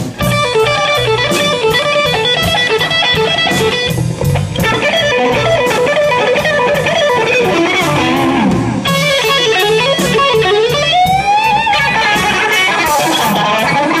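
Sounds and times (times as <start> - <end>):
blues band with bass and drums: 0.0 - 14.0
electric guitar lead lines: 0.0 - 14.0.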